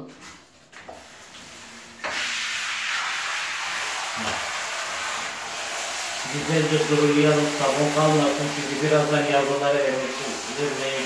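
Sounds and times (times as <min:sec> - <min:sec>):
shower spraying water: 0:00.3 - 0:11.0.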